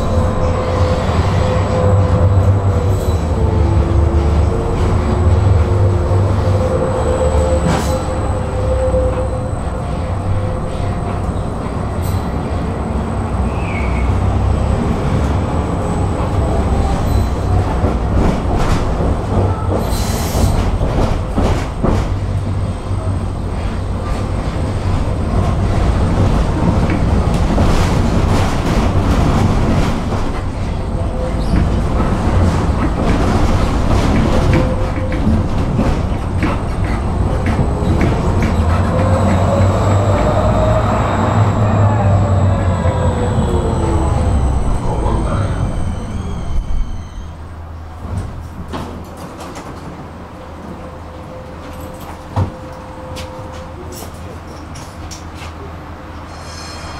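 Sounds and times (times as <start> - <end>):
tram wheels rumbling on rails: 0.0 - 56.9
tram whine: 0.0 - 56.9.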